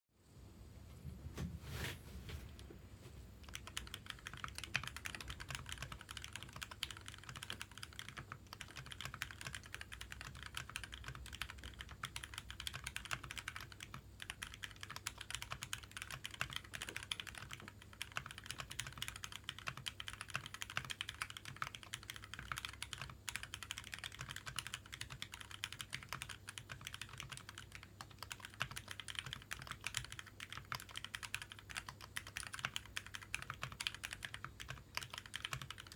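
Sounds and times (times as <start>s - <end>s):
fast mechanical keyboard typing: 3.4s - 35.9s.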